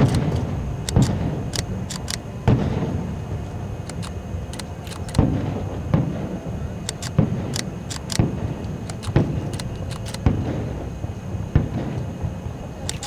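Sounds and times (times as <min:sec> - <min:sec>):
fireworks booming: 0:00.0 - 0:13.0
fireworks cracking: 0:00.0 - 0:13.0.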